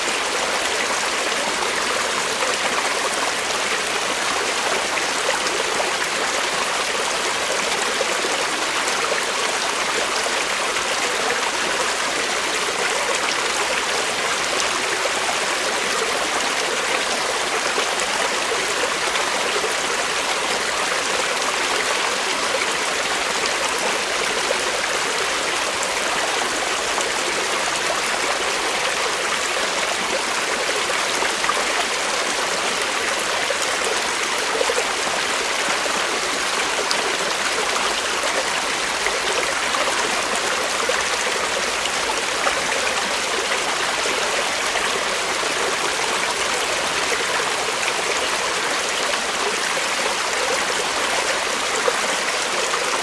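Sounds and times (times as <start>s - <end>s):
creek water flowing over rocks: 0.0s - 53.0s.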